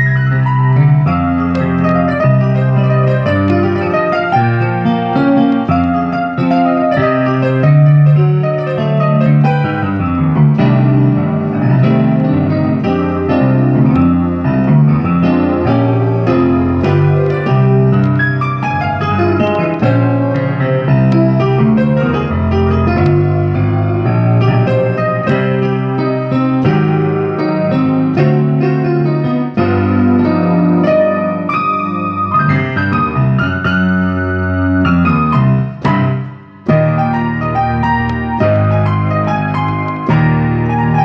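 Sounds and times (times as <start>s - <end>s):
piano-style keyboard music: 0.0s - 41.0s.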